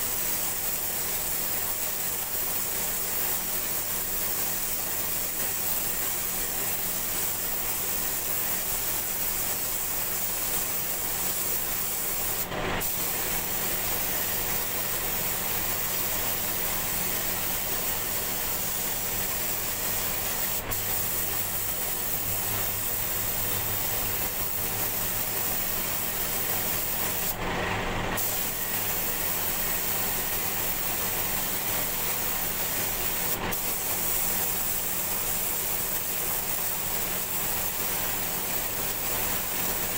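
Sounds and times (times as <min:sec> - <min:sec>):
spray gun hissing: 0:00.0 - 0:27.4, 0:28.2 - 0:39.9.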